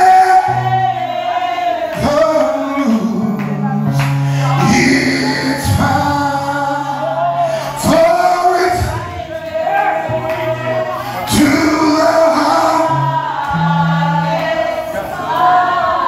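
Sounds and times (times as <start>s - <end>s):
keyboard holding low chords: 0.0s - 16.0s
person singing: 0.0s - 16.0s.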